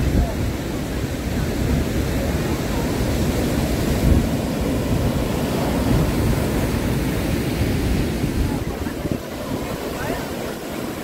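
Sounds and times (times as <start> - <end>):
surf washing on sandy beach: 0.0 - 11.0
wind rumbling on microphone: 0.0 - 11.0.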